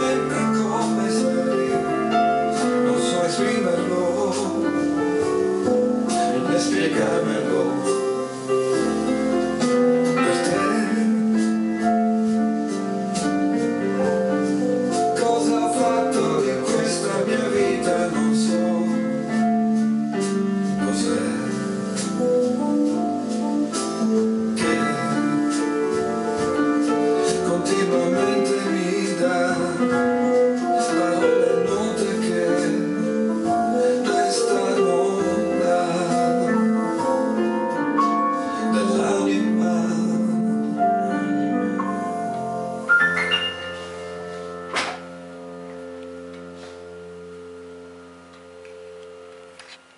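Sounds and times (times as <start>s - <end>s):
electronic keyboard ballad: 0.0s - 49.9s.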